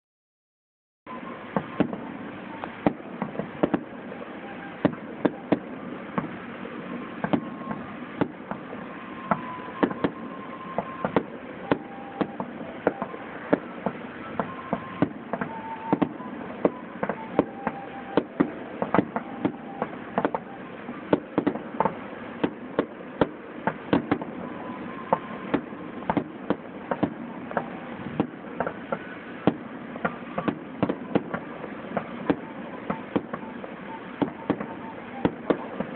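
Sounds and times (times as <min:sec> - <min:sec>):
fireworks shells bursting: 0:01.2 - 0:35.9.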